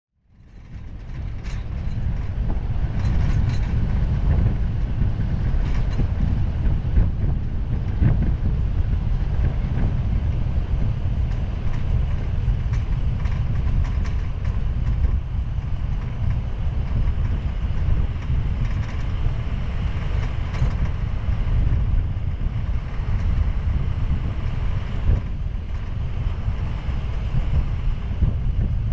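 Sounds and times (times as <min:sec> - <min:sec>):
wind buffeting microphone: 0:00.3 - 0:28.9.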